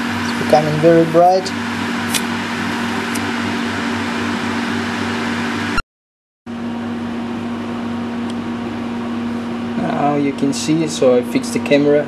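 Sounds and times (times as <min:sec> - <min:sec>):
extraction fan hiss and hum: 0:00.0 - 0:05.8, 0:06.5 - 0:12.0.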